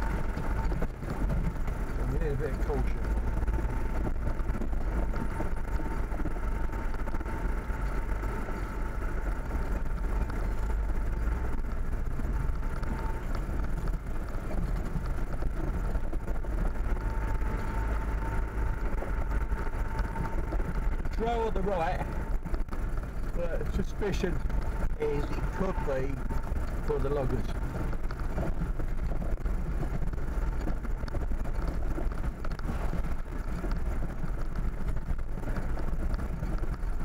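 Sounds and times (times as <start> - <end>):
engine and road rumble: 0.0 - 37.0
steady faint whine: 0.0 - 37.0.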